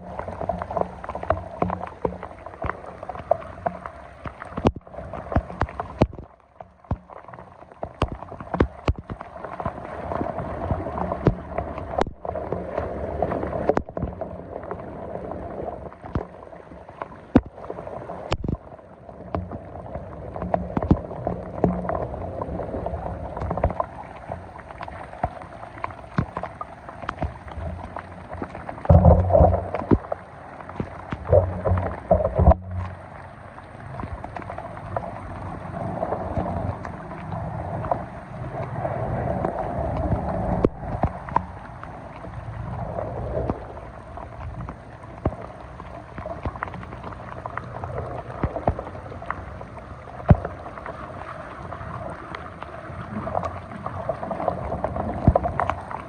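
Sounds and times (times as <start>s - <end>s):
water sloshing and gurgling: 0.0s - 56.0s
water splashing: 0.0s - 56.0s.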